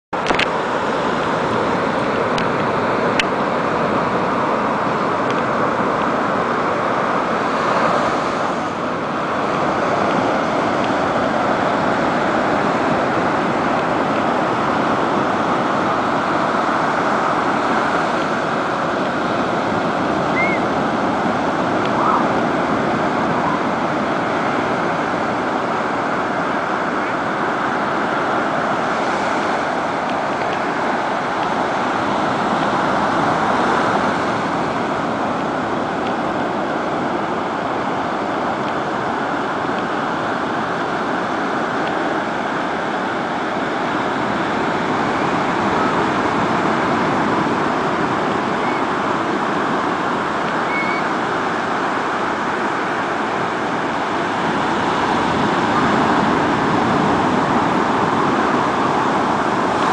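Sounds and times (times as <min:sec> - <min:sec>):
ocean surf breaking on shore: 0:00.2 - 0:59.9.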